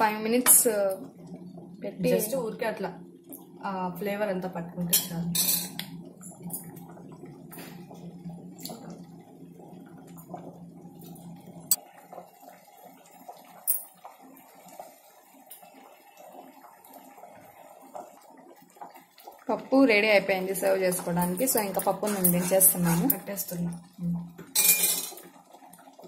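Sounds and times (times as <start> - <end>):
thick stew bubbling in pot: 0.0 - 26.0.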